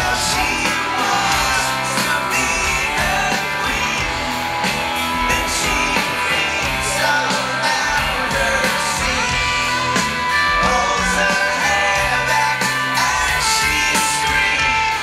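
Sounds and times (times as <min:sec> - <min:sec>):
drums: 0:00.0 - 0:15.0
electric guitar: 0:00.0 - 0:15.0.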